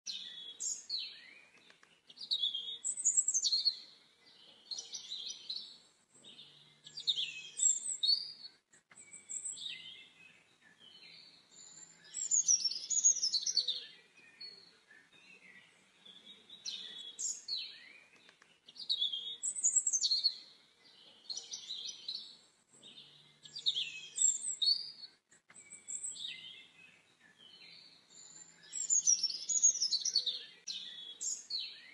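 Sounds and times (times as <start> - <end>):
small birds chirping: 0.1 - 31.9.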